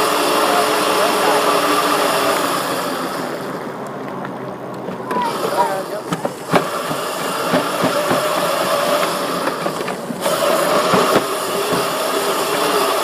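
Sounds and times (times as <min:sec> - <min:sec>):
electric dirt bike motor whining: 0:00.0 - 0:03.8, 0:05.0 - 0:13.0.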